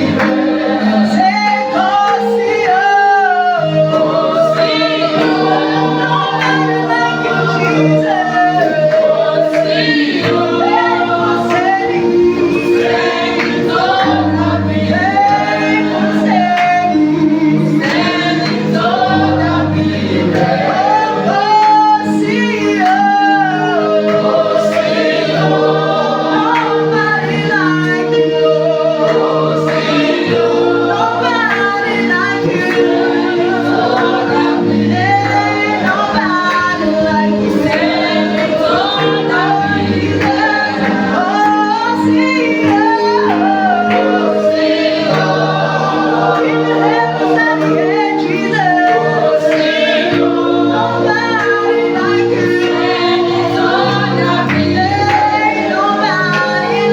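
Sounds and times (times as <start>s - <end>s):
group singing a worship song: 0.0s - 56.9s.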